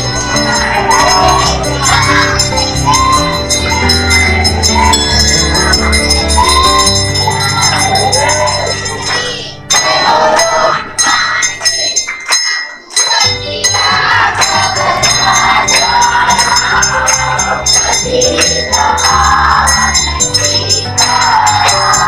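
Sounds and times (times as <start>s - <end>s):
group of voices singing: 0.0s - 22.0s
hand bells ringing rapidly: 0.0s - 22.0s.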